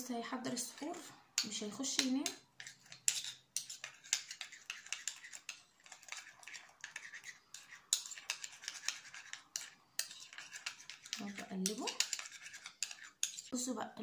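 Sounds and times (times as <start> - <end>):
plastic spoon scraping a bowl: 0.7 - 13.6.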